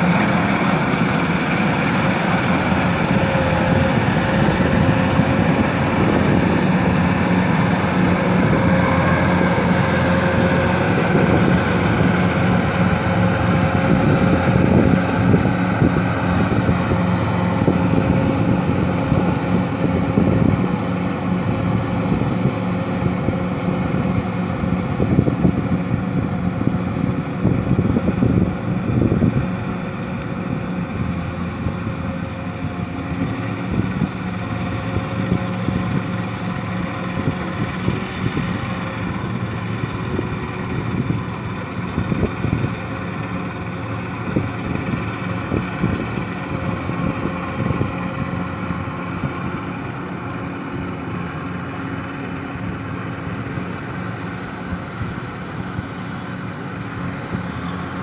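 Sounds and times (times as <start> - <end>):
engine running with light knocking: 0.0 - 58.0.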